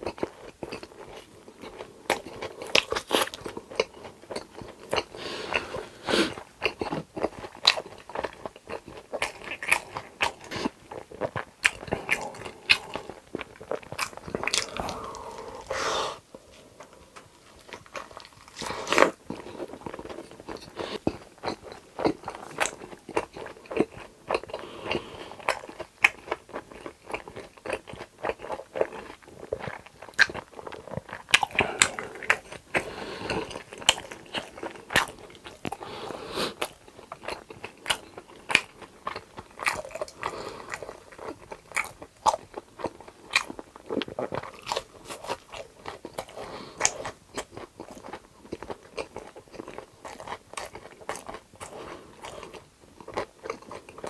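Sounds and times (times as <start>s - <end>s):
crunchy food chewing: 0.0s - 54.0s.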